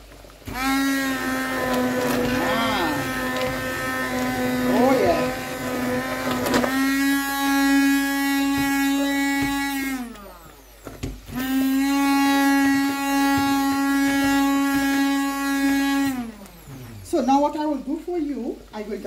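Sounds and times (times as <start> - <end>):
immersion blender motor whine: 0.0 - 18.9.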